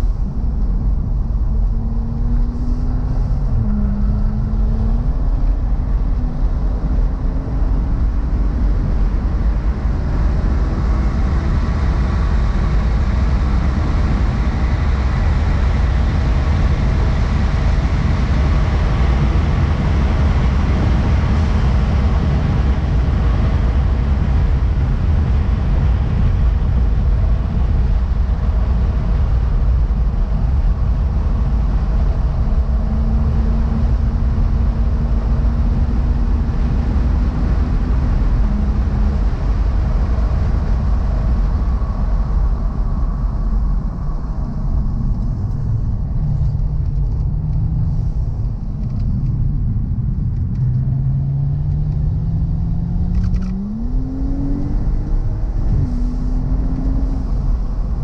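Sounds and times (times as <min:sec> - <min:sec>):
car engine drone from inside cabin: 0:00.0 - 0:58.0
road and wind noise: 0:00.0 - 0:58.0
steady low hum: 0:00.0 - 0:58.0.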